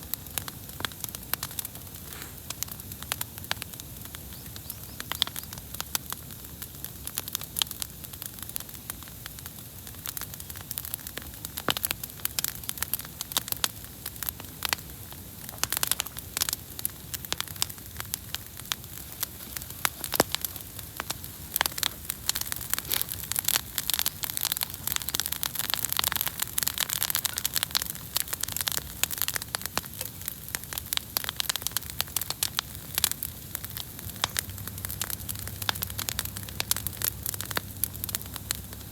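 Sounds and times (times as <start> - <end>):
campfire crackling and popping: 0.0 - 38.9
soft steady hiss: 0.0 - 38.9.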